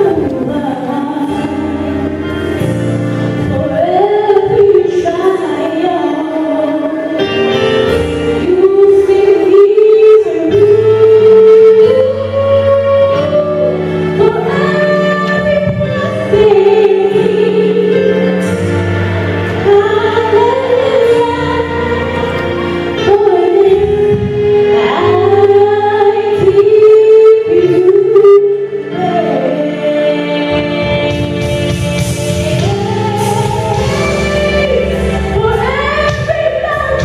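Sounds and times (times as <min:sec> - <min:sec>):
woman singing gospel: 0:00.0 - 0:02.3, 0:03.4 - 0:07.6, 0:08.4 - 0:18.8, 0:19.5 - 0:37.0
backing music: 0:00.0 - 0:37.0.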